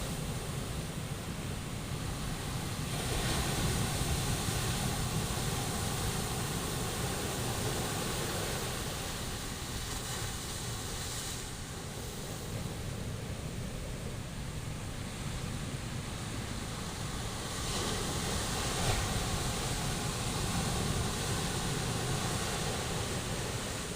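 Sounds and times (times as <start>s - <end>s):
waves breaking: 0.0s - 23.9s.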